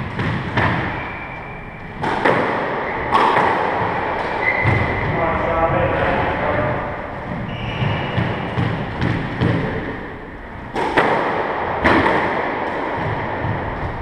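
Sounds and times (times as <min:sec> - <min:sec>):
squash ball struck by rackets: 0:00.0 - 0:05.2, 0:07.0 - 0:14.0
ball hitting court walls: 0:00.0 - 0:14.0.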